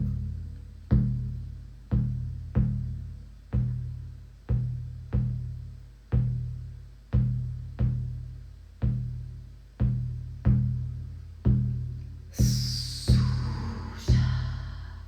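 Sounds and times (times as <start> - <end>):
frame drum beaten slowly: 0.0 - 15.0.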